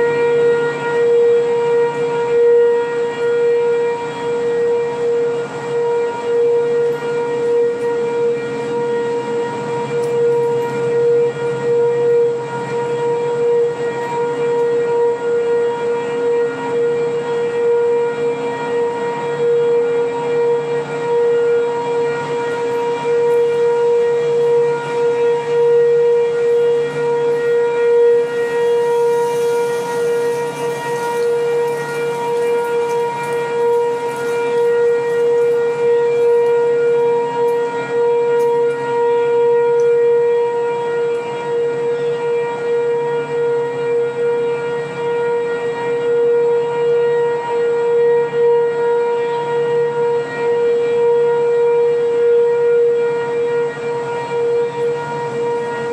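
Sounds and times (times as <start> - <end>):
distant warning sirens: 0.0 - 55.9.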